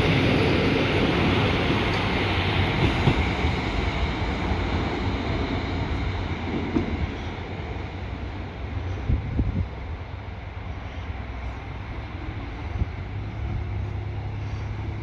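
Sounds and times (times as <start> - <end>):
diesel train passing: 0.0 - 15.0.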